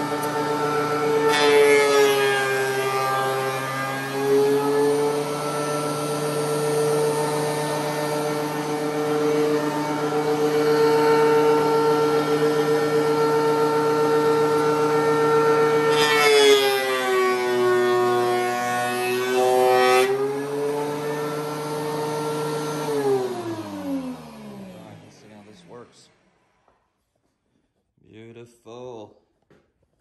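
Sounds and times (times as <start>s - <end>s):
thickness planer motor whine: 0.0s - 26.8s.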